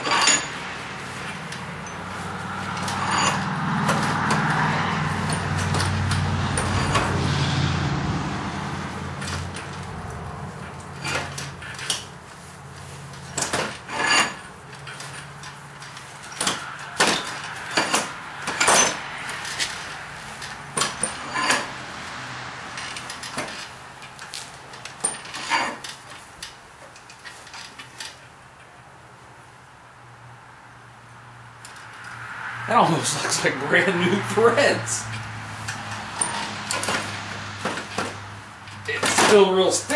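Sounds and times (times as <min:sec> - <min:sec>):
metal vise clinking and scraping: 0:00.0 - 0:07.3, 0:09.2 - 0:21.8, 0:22.8 - 0:28.2, 0:33.1 - 0:39.9.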